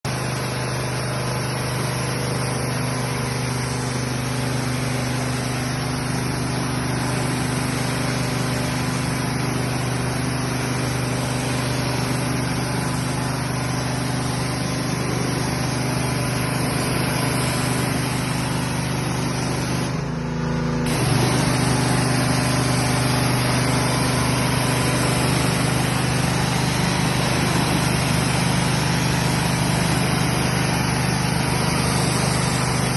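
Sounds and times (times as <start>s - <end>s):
pressure washer running: 0.0s - 32.9s.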